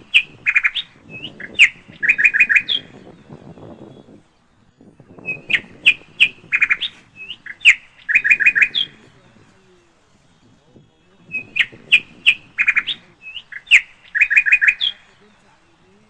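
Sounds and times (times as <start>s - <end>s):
bird chirping sharp notes: 0.0s - 16.0s.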